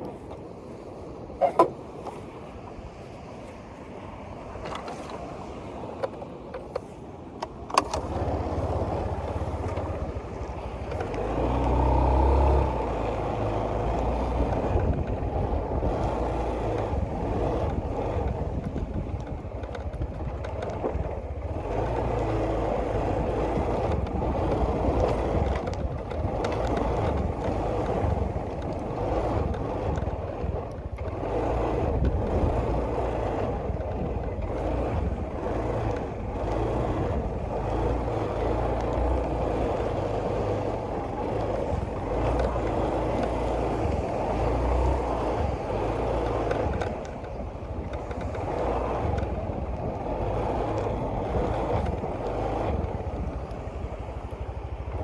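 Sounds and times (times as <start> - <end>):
boat engine running: 4.6 - 55.0.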